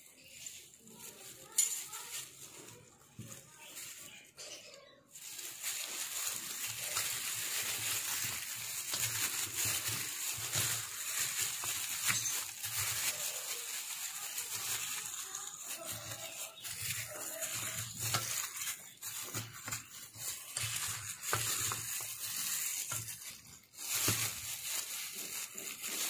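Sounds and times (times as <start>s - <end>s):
plastic glove crinkling: 0.0s - 26.0s.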